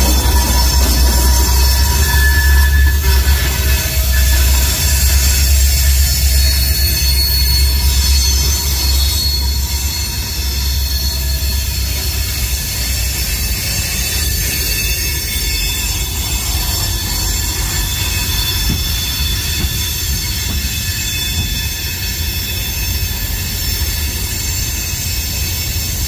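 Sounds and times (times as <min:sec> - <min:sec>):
high wheel squeals: 0:00.0 - 0:26.0
train wheels rumbling on rail: 0:00.0 - 0:26.0.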